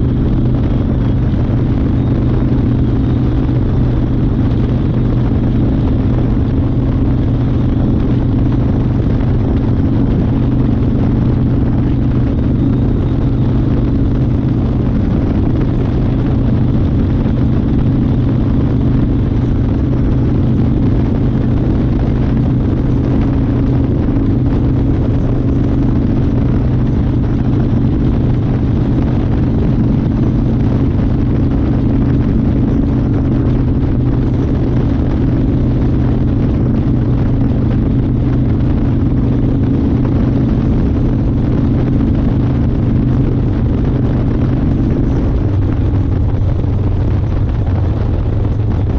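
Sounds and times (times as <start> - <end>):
motorcycle engine running steadily: 0.0 - 48.9.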